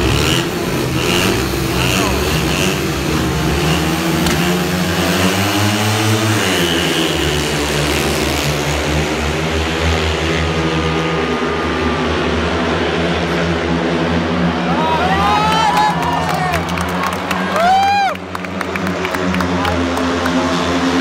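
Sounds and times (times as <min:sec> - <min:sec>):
motorcycle engines revving: 0:00.0 - 0:15.7, 0:16.5 - 0:21.0.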